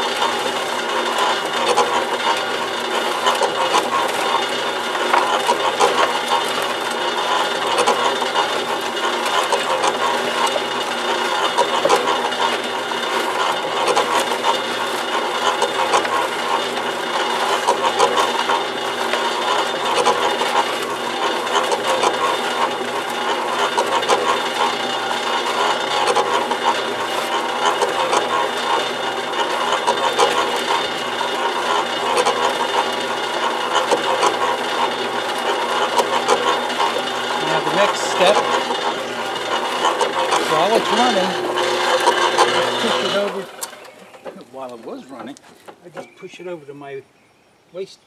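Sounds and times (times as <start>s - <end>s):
electric motor humming: 0.0s - 45.8s
compost tumbling and rattling: 0.0s - 46.2s.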